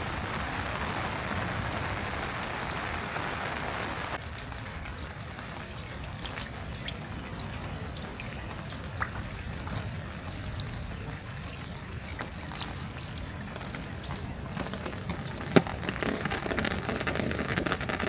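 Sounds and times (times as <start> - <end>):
raindrops ticking: 0.0 - 18.0.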